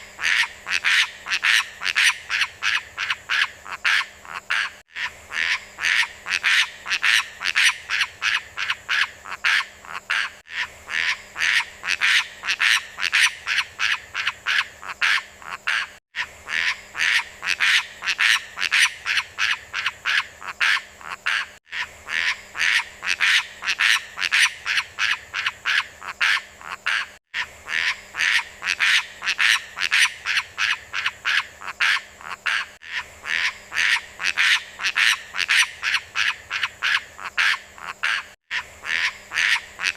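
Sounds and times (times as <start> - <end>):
rhythmic croaking animal calls: 0.0 - 39.9.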